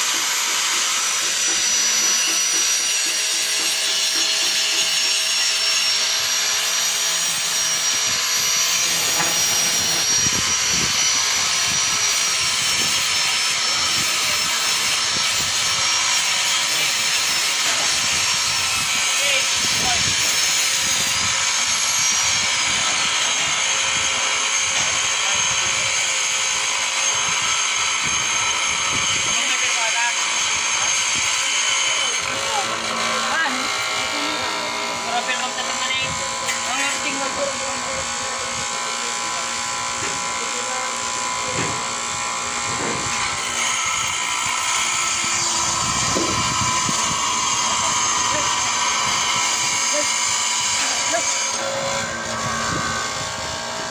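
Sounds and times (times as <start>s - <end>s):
bench grinder grinding tool bit: 0.0s - 53.9s.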